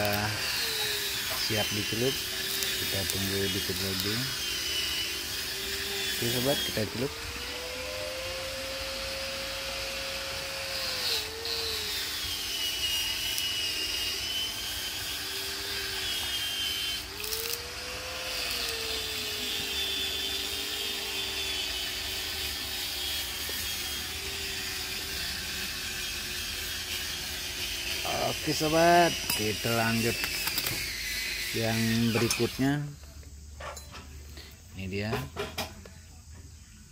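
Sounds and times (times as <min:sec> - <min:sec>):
hot steel hissing in water: 0:00.0 - 0:33.0.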